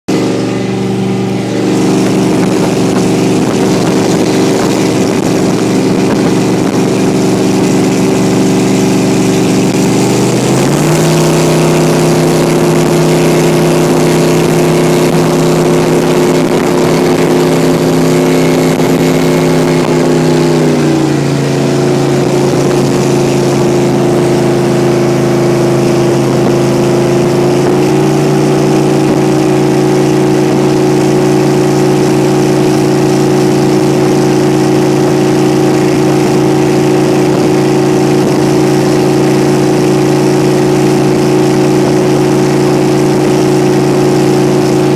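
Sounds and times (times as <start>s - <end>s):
rushing water noise: 0.1s - 44.9s
speedboat engine running: 0.1s - 44.9s.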